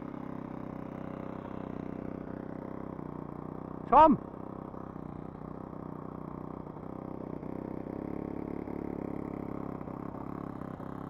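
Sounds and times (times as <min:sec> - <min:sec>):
model aircraft engine running: 0:00.0 - 0:11.0.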